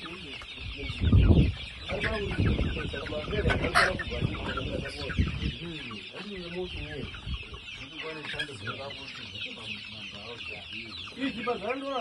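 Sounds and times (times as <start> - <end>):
chicks cheeping and clucking: 0.0 - 12.0.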